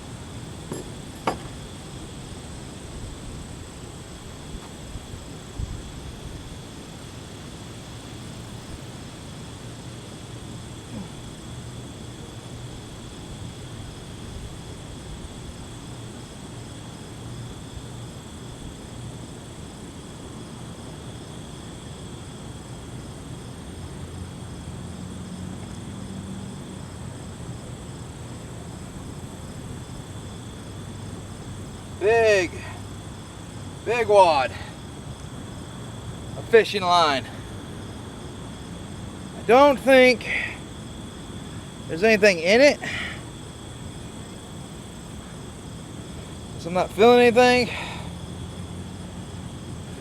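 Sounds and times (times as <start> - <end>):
crickets and insects trilling: 0.0 - 50.0.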